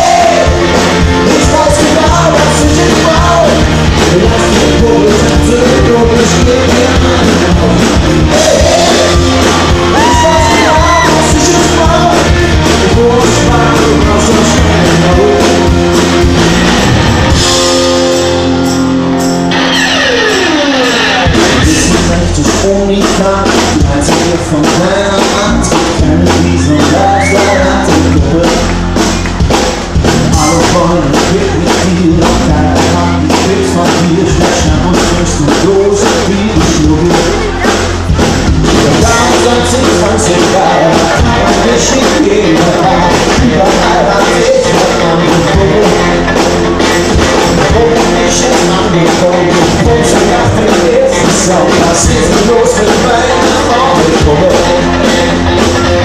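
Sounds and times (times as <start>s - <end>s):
live pop-rock band playing: 0.0s - 56.0s
steady drum beat: 0.0s - 56.0s.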